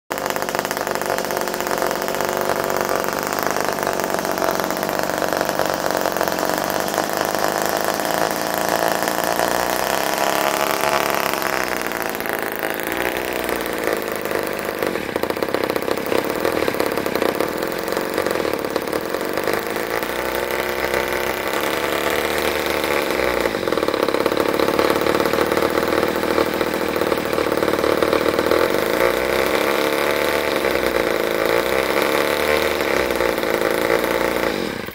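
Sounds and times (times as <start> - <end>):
two-stroke engine running: 0.1 - 34.9.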